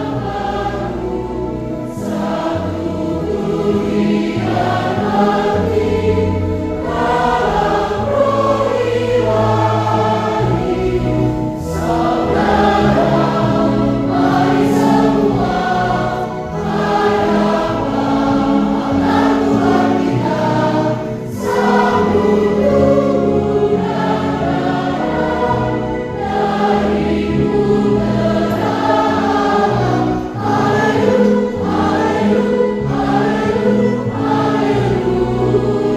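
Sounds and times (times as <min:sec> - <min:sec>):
children's choir singing a hymn: 0:00.0 - 0:35.9
low held accompaniment notes: 0:00.0 - 0:35.9.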